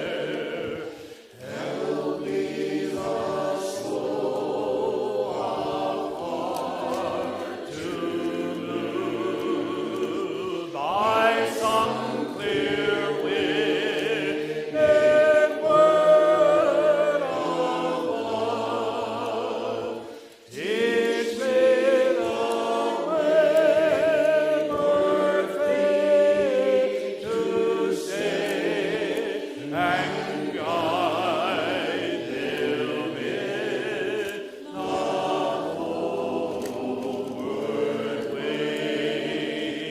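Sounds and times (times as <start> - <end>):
group of voices singing: 0.0 - 39.9.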